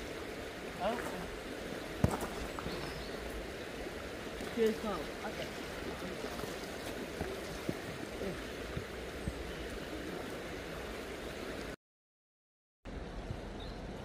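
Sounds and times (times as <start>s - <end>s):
river water over stones: 0.0s - 11.8s.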